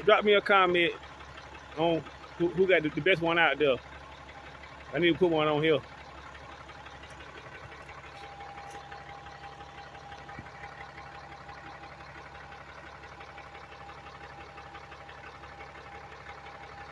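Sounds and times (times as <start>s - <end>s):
truck engine idling: 0.0s - 16.9s.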